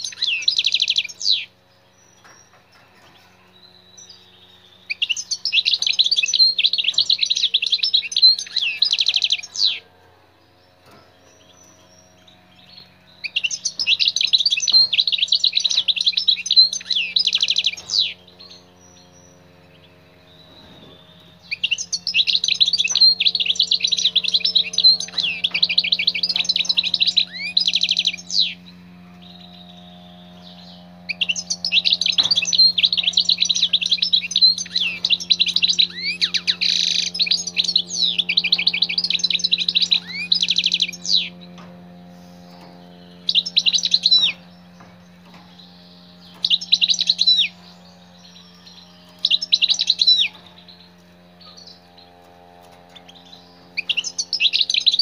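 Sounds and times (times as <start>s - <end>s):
goldfinch twittering song: 0.0s - 9.8s, 10.5s - 55.0s
steady low hum: 0.0s - 55.0s.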